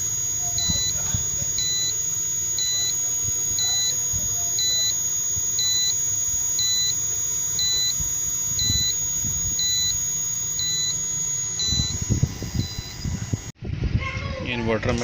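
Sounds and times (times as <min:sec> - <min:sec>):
inverter buzzer beeping: 0:00.0 - 0:13.6.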